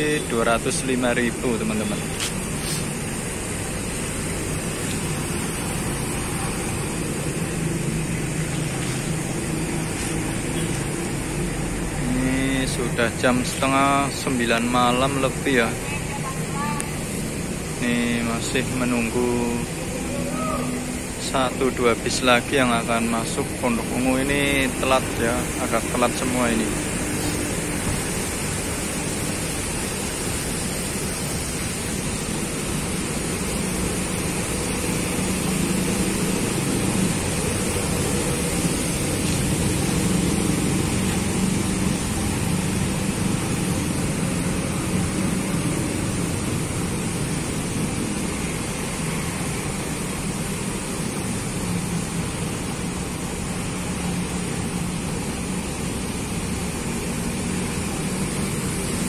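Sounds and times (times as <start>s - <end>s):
bus diesel engine idling: 0.0s - 59.0s
even hiss: 0.0s - 59.0s.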